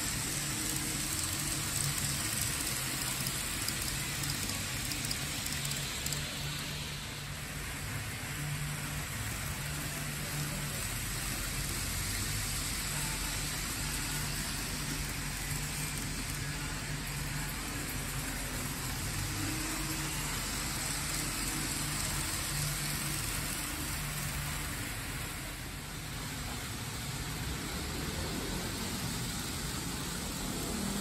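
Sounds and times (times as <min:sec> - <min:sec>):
constant hiss: 0:00.0 - 0:31.0
model train motors whirring: 0:00.0 - 0:31.0.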